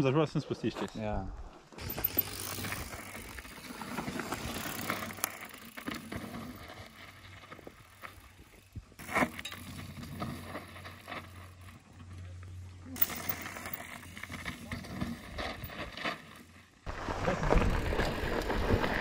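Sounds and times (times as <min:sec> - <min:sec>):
bike tyres crunching over rock: 0:01.8 - 0:19.0.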